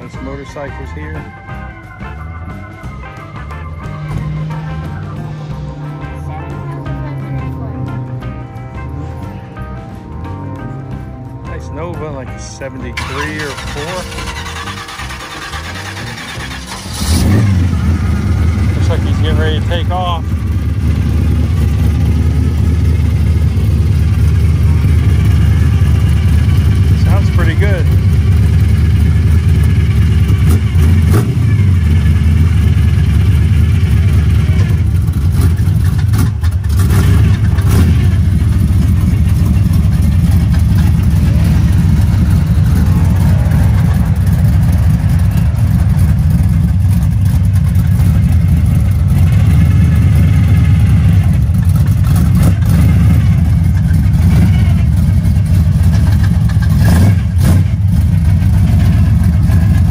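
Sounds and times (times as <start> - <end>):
car engine with loud exhaust: 0.0 - 59.9.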